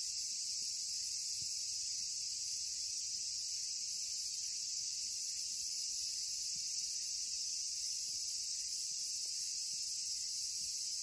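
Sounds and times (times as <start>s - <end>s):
cicadas shrilling: 0.0s - 11.0s.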